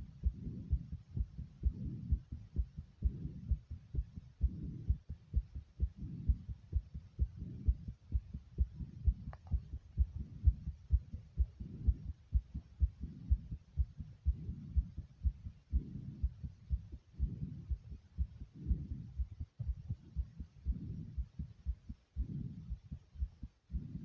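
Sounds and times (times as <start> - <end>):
heartbeat thumps: 0.0 - 24.0
soft breathing: 0.0 - 24.0.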